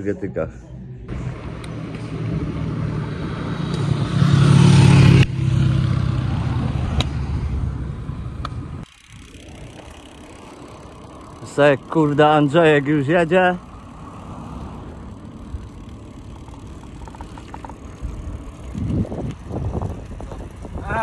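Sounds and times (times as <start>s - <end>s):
road noise: 0.0s - 21.0s
motor vehicle passing on road: 1.1s - 21.0s.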